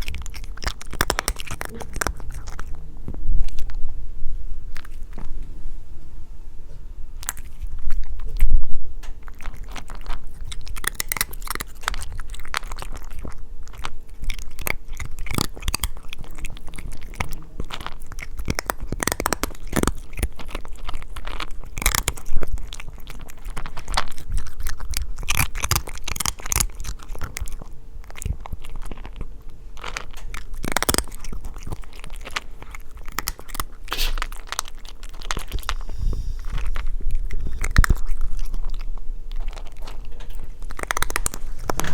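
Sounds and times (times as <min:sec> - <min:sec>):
cat chewing food: 0:00.0 - 0:05.9, 0:06.7 - 0:41.9.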